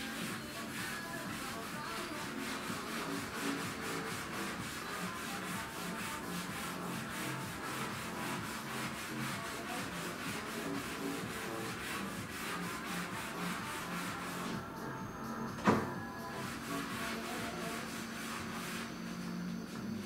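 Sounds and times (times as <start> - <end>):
scrubbing a kitchen counter: 0.0 - 14.6, 16.2 - 20.0.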